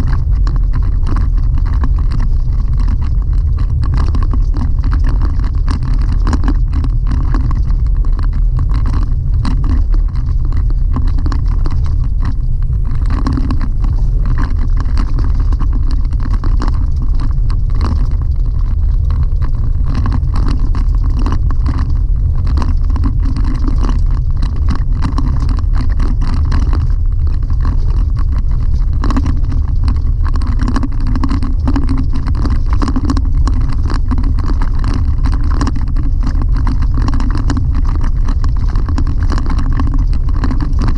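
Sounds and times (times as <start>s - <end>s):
gravel clicks and rattles: 0.0s - 40.9s.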